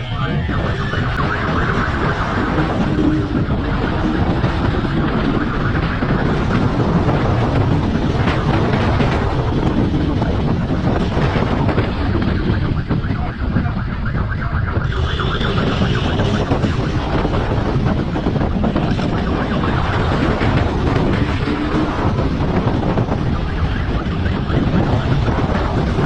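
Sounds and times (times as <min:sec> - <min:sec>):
road noise: 0:00.0 - 0:26.0
vehicle engine: 0:00.0 - 0:26.0
wind buffeting on microphone: 0:00.0 - 0:26.0.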